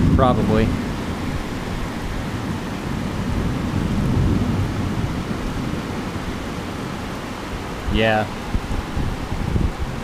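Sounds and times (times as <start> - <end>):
heavy rain pouring: 0.0 - 10.0
low rumble of thunder: 0.0 - 10.0.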